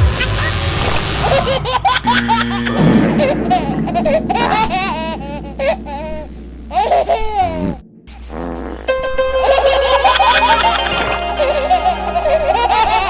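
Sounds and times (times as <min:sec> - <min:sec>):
child laughing and giggling: 0:01.2 - 0:08.7, 0:09.4 - 0:13.0.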